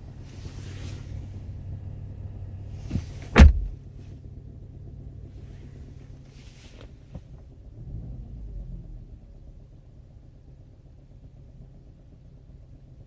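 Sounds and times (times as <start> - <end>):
engine rumble inside car: 0.0 - 13.0.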